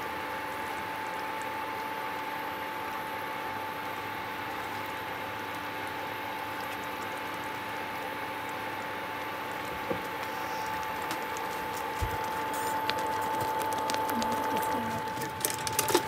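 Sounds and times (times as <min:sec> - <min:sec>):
cooktop high whine: 0:00.0 - 0:16.0
gravy bubbling in a pan: 0:00.0 - 0:16.0.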